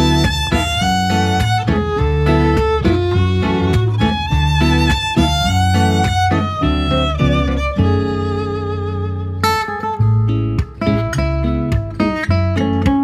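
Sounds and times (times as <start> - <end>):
bowed string melody: 0.0 - 13.0
guitar: 0.0 - 13.0
steady bass line: 0.0 - 13.0.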